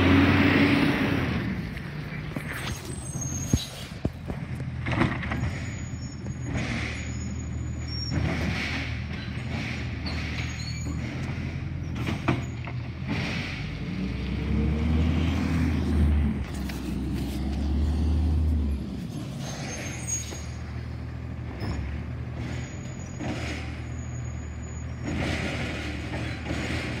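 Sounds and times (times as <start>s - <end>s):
garbage truck engine running: 0.0s - 27.0s.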